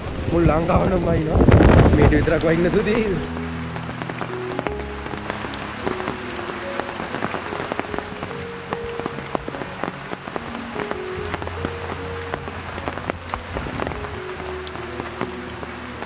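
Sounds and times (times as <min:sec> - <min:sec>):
rain drops ticking: 0:00.0 - 0:16.0
soft music of held notes: 0:02.1 - 0:16.0.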